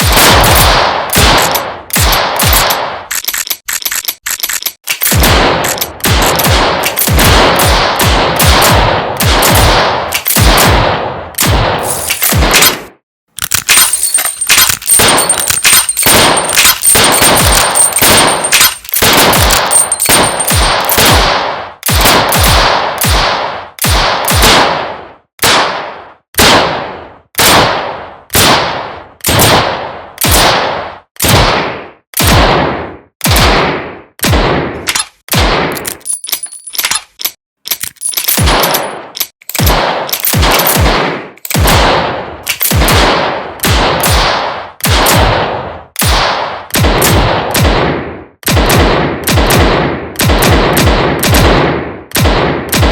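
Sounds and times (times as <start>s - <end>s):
revolver gunshots: 0.0s - 3.1s, 5.0s - 13.0s, 13.7s - 36.6s, 38.3s - 52.9s.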